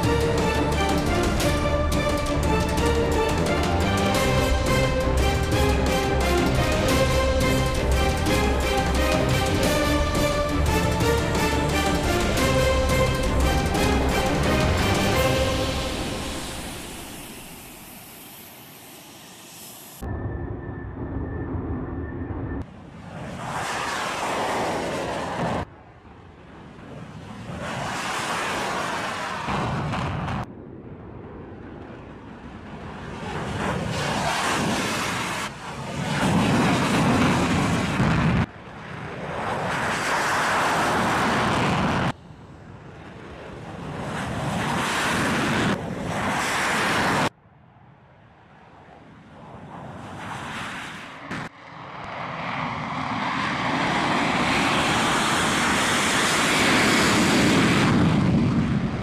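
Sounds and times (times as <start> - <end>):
fighter jet engines on takeoff: 0.0 - 59.0.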